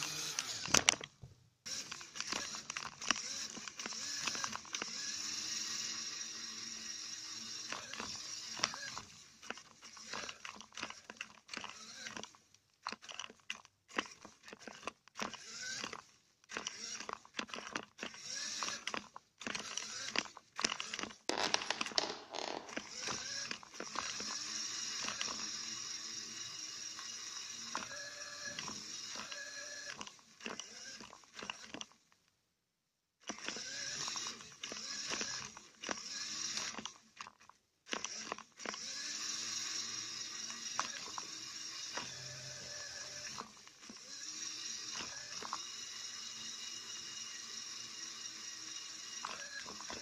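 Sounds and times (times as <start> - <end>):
toy car motors whining: 0.0 - 32.2, 33.2 - 50.0.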